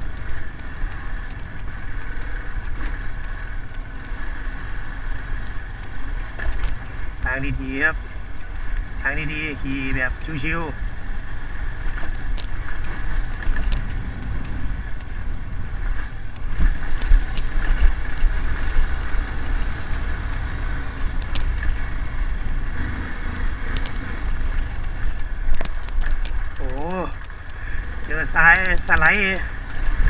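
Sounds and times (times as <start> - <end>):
bike clicks and rattles: 0.0 - 30.0
motorcycle engine running: 0.0 - 30.0
wind rumble on microphone: 0.0 - 30.0.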